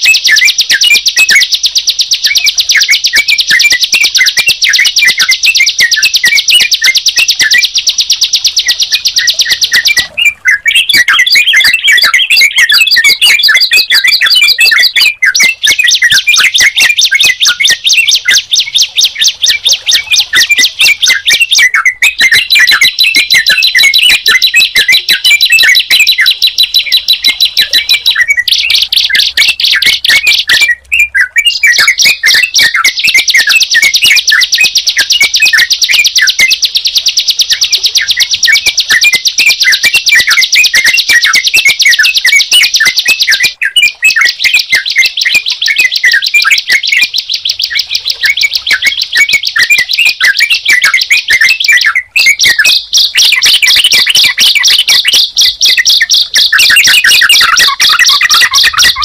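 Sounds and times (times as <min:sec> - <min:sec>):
birds chirping: 0:00.0 - 0:59.0
high-pitched bird trill: 0:00.0 - 0:59.0.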